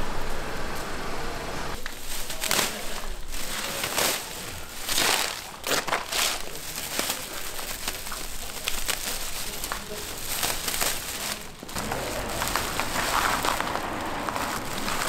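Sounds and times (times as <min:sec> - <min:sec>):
branches brushing on plastic tarp: 0:01.7 - 0:15.0
plastic bag crinkling: 0:01.8 - 0:15.0.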